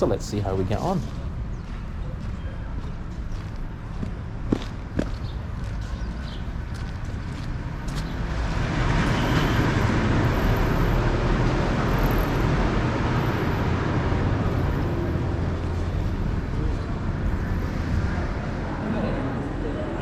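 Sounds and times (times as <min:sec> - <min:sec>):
rumble of vehicle traffic: 0:00.0 - 0:20.0.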